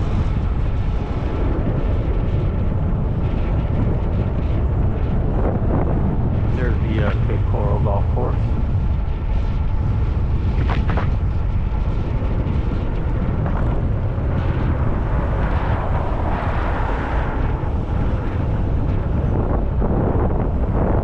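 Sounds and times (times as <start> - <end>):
faint steady whine: 0.0 - 21.0
wind buffeting microphone: 0.0 - 21.0.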